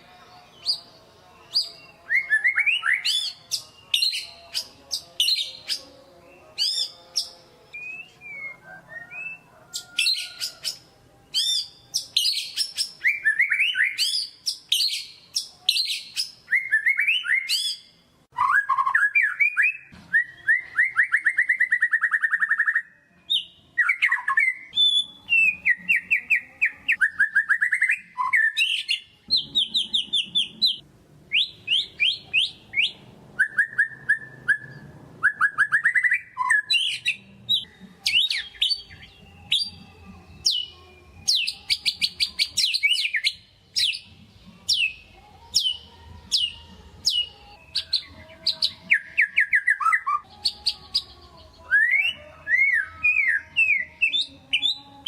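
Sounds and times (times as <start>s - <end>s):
songbird singing trills and whistles: 0.0s - 55.0s.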